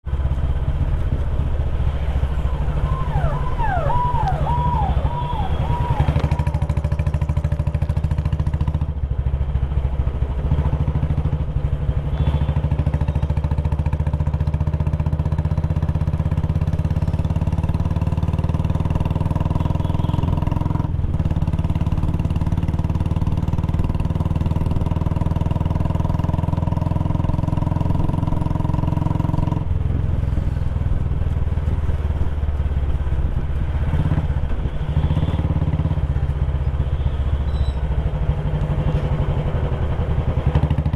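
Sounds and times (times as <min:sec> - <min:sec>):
motorcycle engine running: 0:00.1 - 0:40.9.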